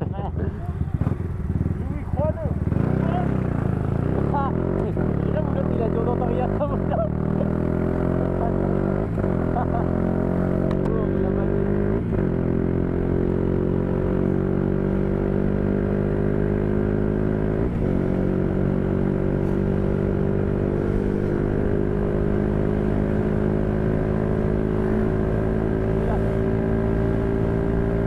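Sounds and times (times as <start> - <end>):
motorcycle engine cruising: 0.0 - 28.0
wind and road noise: 0.0 - 28.0.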